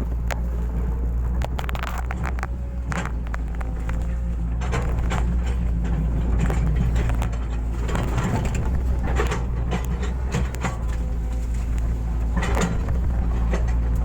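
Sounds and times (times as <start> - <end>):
digging scrapes and knocks: 0.0 - 14.0
excavator diesel engine running: 0.0 - 14.0.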